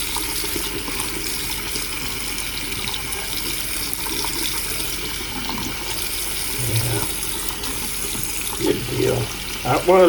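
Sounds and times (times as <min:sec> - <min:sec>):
water running from faucet: 0:00.0 - 0:10.0.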